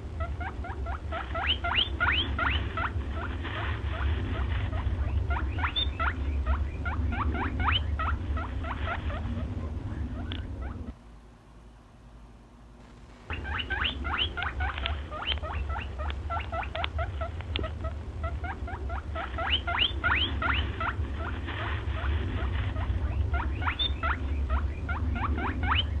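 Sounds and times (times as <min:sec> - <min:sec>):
low rumble: 0:00.0 - 0:11.0, 0:12.8 - 0:26.0
small animal squeaking: 0:00.0 - 0:11.0, 0:13.3 - 0:26.0.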